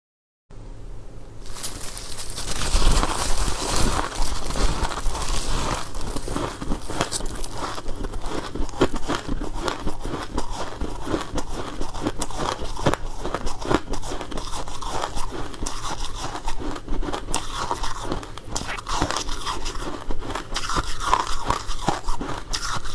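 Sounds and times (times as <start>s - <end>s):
chewing crunchy ice: 1.5s - 22.9s.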